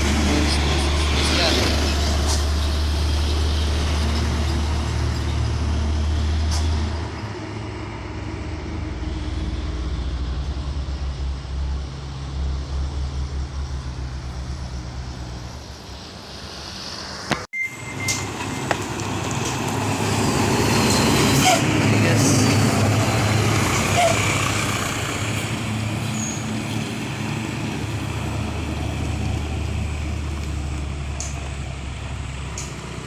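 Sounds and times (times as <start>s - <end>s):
diesel trucks driving past: 0.0s - 33.0s.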